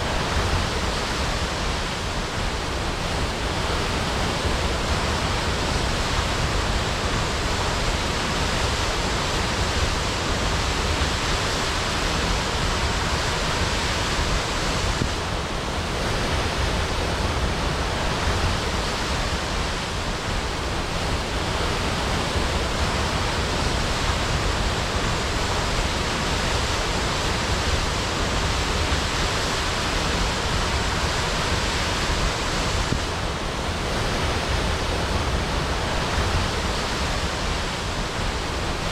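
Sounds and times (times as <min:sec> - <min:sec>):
waterfall crashing: 0:00.0 - 0:38.9.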